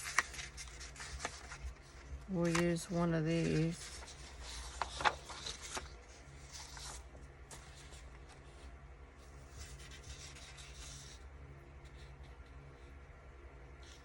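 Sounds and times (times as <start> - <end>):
paper rustling and sliding: 0.0 - 11.2
faint low hum: 0.0 - 14.0.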